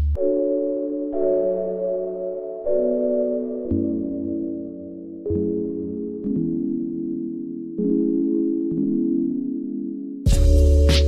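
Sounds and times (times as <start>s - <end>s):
soft lullaby music: 0.1s - 11.0s.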